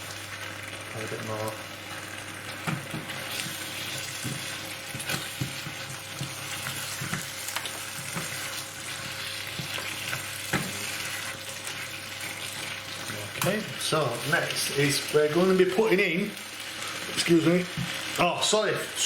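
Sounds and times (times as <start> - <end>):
sauce sizzling in a pan: 0.0 - 19.0.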